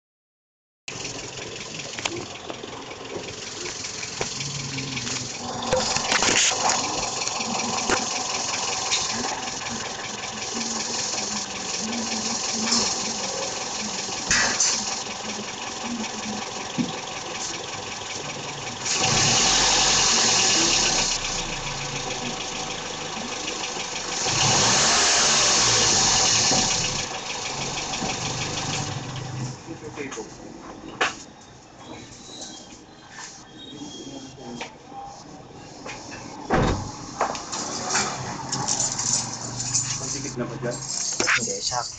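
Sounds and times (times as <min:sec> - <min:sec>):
engine revving: 0:00.9 - 0:30.2, 0:36.8 - 0:41.2
engine clicking: 0:00.9 - 0:31.3, 0:35.7 - 0:41.9
car engine running: 0:00.9 - 0:32.8, 0:35.1 - 0:41.9.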